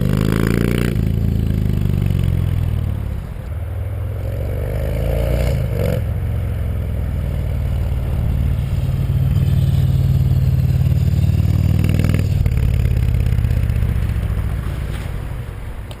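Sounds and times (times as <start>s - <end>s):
motorcycle engine running loud: 0.0s - 14.9s.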